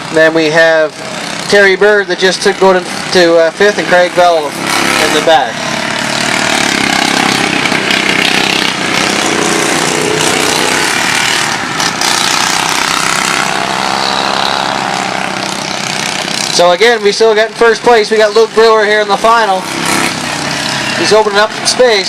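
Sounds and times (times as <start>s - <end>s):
racing lawn tractor engines: 0.0s - 22.0s.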